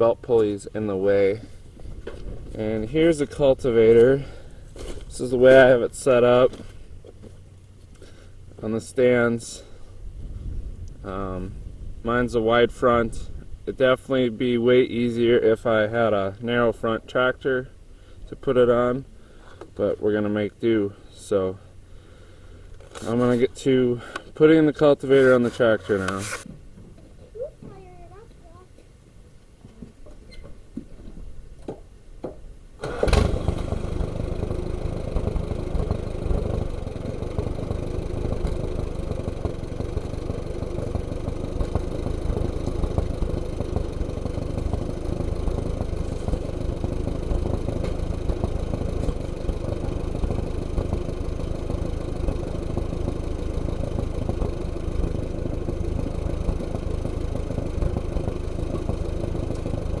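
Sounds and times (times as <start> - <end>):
tractor engine starting and idling: 0.0 - 26.4, 32.6 - 60.0.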